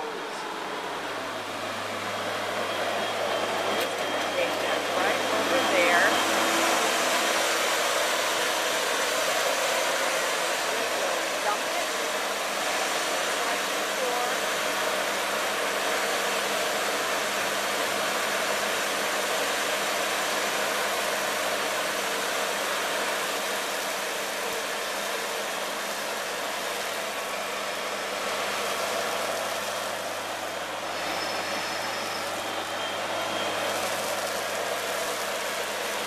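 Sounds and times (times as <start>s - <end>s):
loader diesel engine running: 0.0s - 36.0s.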